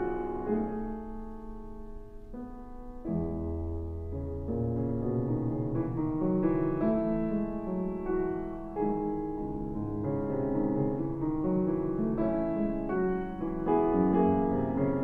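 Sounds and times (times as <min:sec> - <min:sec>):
solo classical piano: 0:00.0 - 0:15.0.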